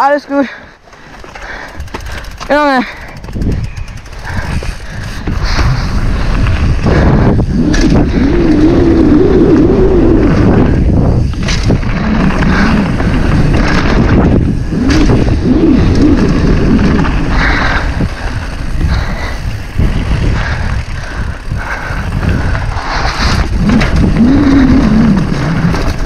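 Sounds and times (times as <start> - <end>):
bike tyre rumble: 0.0 - 26.0
wind noise on microphone: 1.4 - 26.0.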